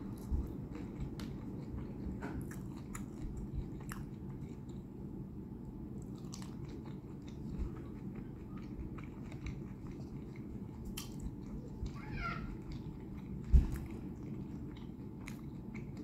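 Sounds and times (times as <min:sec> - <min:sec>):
chewing and biting shrimp: 0:00.0 - 0:04.9, 0:06.0 - 0:16.0.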